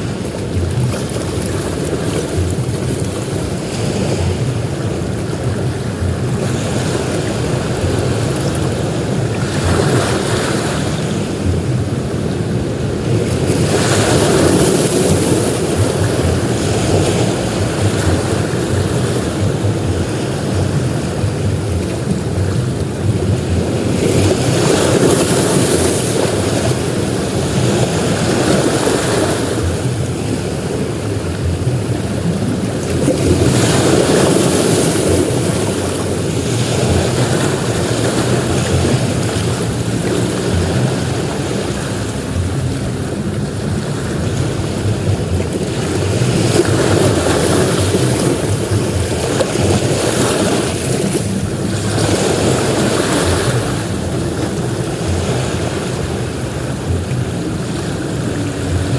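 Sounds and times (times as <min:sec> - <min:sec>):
ocean waves breaking on beach: 0:00.0 - 0:58.9.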